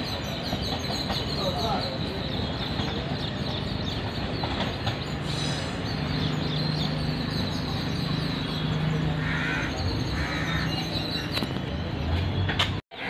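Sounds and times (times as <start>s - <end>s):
distant train rumble: 0.0s - 12.8s
birds chirping: 0.0s - 13.0s.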